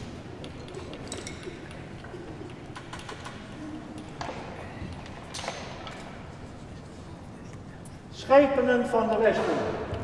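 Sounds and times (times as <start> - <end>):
clicks and knocks of people moving: 0.0 - 8.2, 8.9 - 10.0.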